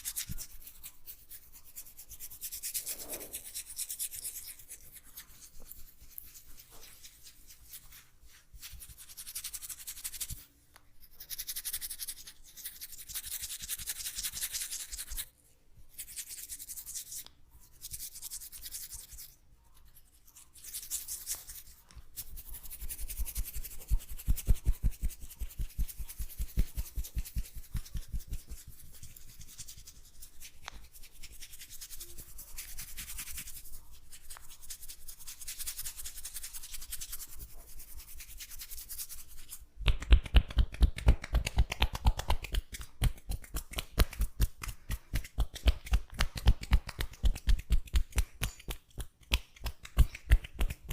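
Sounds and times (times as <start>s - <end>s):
hands rubbing oiled hair: 0.0s - 15.3s, 15.9s - 50.9s.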